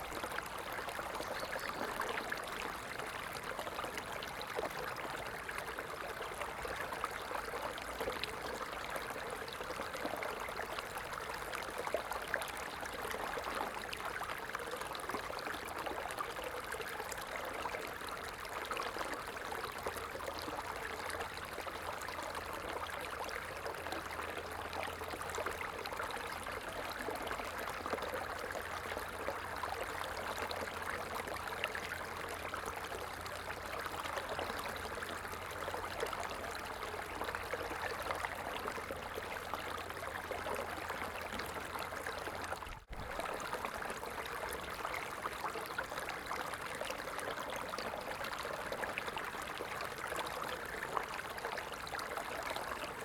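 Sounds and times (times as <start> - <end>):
stream burbling over stones: 0.0 - 53.0.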